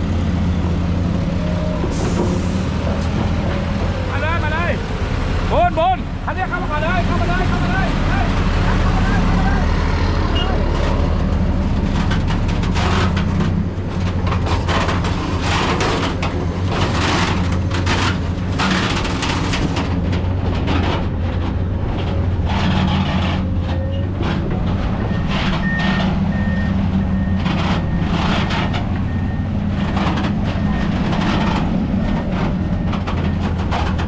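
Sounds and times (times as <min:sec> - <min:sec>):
heavy truck engine running: 0:00.0 - 0:34.0.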